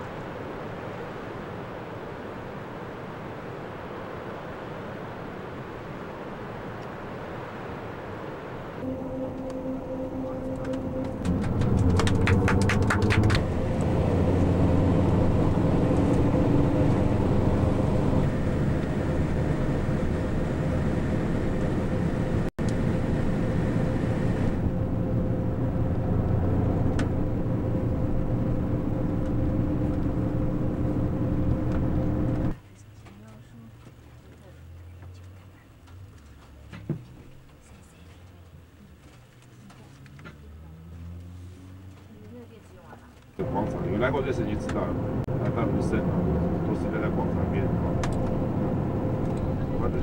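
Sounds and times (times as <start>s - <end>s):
vehicle engine drone: 0.0s - 50.0s.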